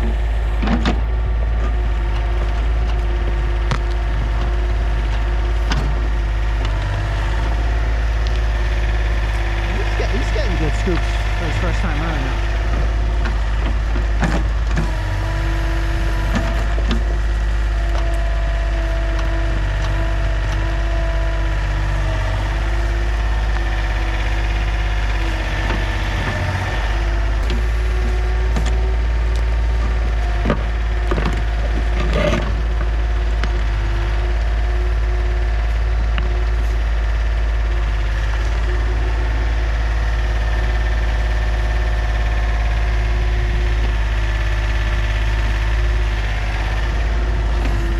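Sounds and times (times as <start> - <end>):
excavator engine rumbling: 0.0 - 47.9
hydraulic whine: 0.0 - 47.9.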